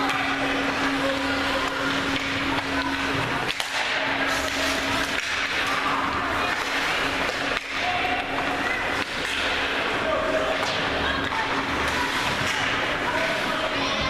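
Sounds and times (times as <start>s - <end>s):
murmur of voices: 0.0s - 14.0s
skates scraping ice: 0.0s - 14.0s
steady hum: 0.0s - 14.0s.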